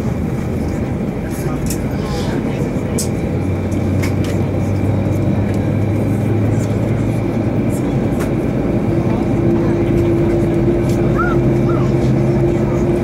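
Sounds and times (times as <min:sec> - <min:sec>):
jet engines humming at idle: 0:00.0 - 0:13.0.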